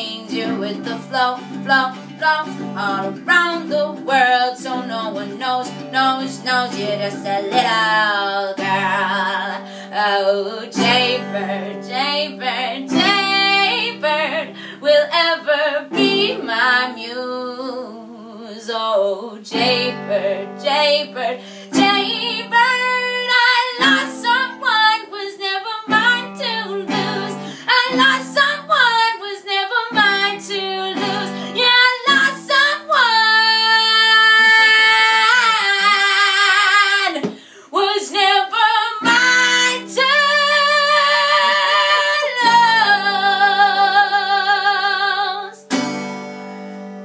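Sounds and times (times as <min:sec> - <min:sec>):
woman singing wordless notes: 0:00.0 - 0:45.7
guitar: 0:00.0 - 0:47.0.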